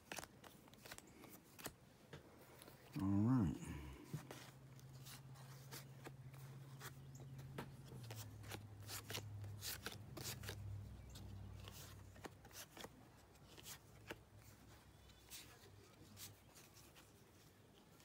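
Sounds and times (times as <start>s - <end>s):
cards clicking and rustling: 0.0s - 3.0s, 4.1s - 17.2s.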